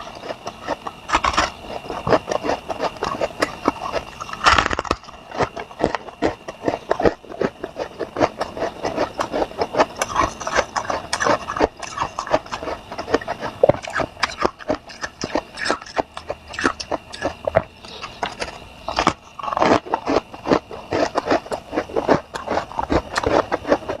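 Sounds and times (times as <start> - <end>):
person chewing crunchy frost: 0.0 - 24.0.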